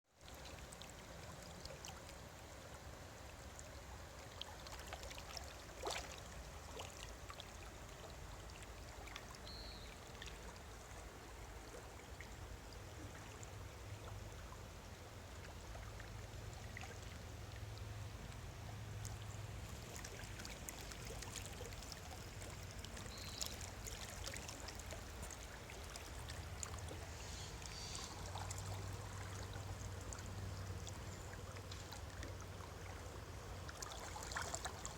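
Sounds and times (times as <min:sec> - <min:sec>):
running water rushing: 0:00.3 - 0:34.9.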